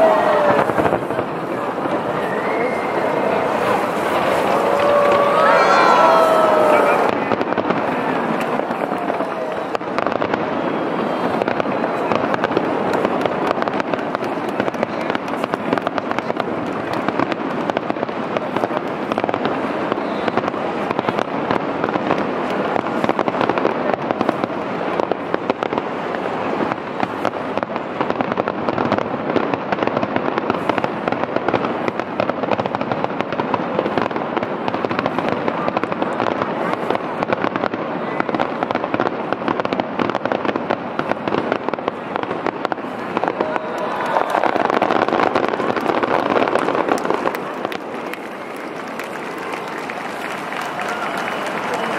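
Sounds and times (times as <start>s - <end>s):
fireworks bursting and crackling: 0.0s - 51.9s.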